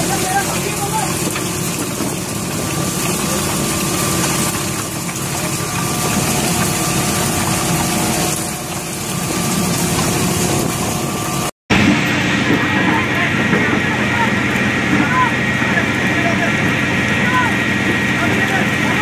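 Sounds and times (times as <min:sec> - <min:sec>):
deck machinery humming: 0:00.0 - 0:19.0.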